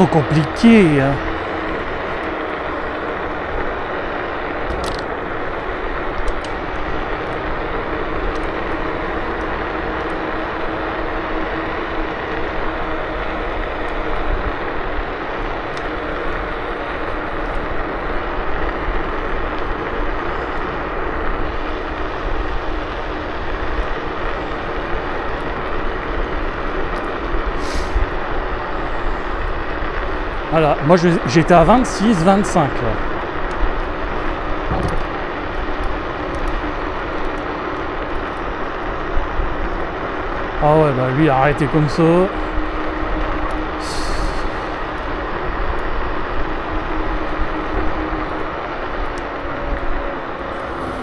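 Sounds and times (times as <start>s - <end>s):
faint electric motor hum: 0.0s - 51.0s
road and wind noise: 0.0s - 51.0s.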